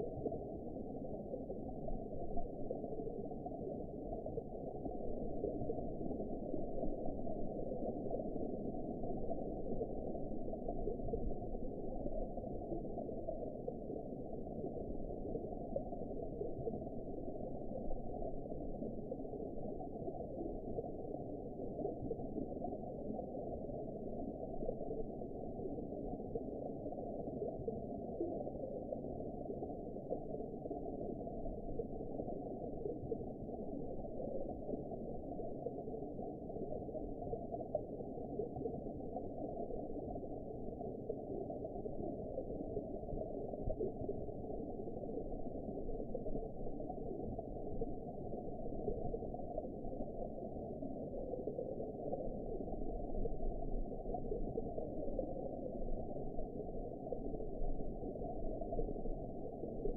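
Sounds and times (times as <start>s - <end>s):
muffled underwater wash: 0.0s - 59.9s.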